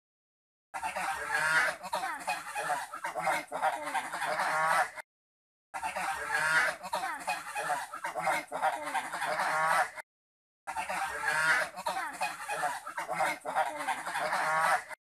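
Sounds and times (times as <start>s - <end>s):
geese honking and cackling: 0.8s - 5.0s, 5.8s - 10.0s, 10.7s - 15.0s.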